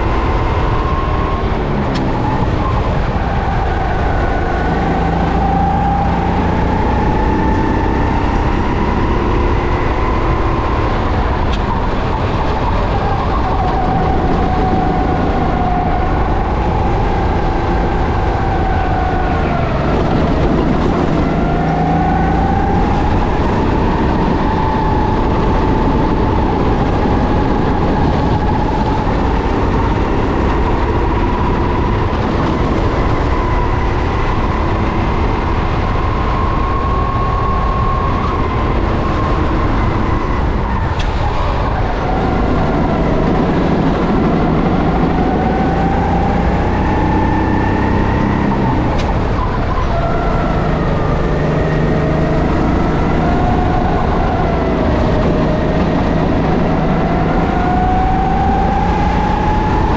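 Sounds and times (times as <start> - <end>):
kart engine revving: 0.0 - 59.9
wind rush: 0.0 - 59.9.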